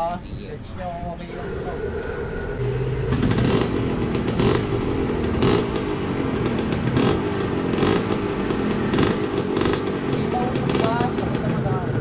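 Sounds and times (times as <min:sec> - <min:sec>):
two-stroke engine revving: 0:01.3 - 0:12.0.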